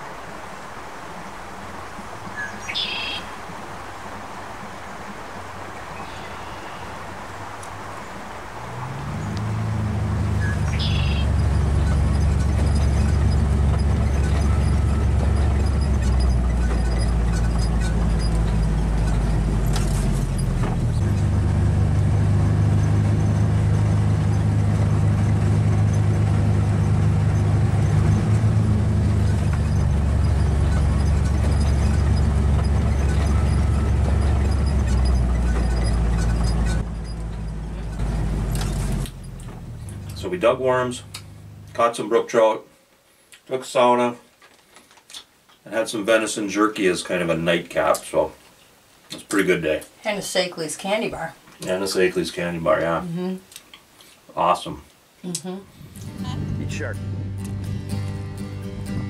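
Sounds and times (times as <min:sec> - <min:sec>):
vehicle engine and road drone: 0:00.0 - 0:42.6, 0:51.6 - 0:53.2, 0:55.4 - 0:59.0.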